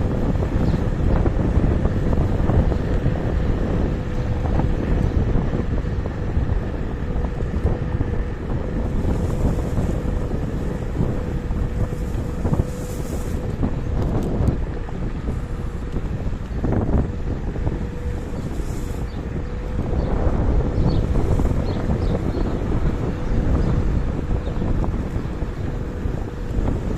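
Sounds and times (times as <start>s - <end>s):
road rumble: 0.0s - 26.9s
wind buffeting microphone: 0.0s - 26.9s.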